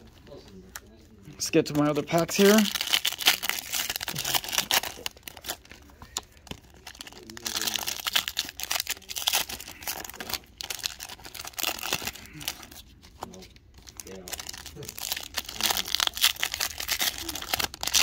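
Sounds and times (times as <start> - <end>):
foil wrapper crinkling and tearing: 0.8 - 18.0.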